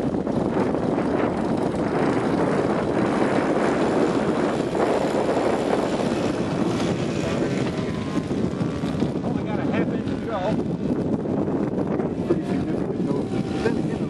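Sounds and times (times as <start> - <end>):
model plane engine running: 0.0 - 14.0.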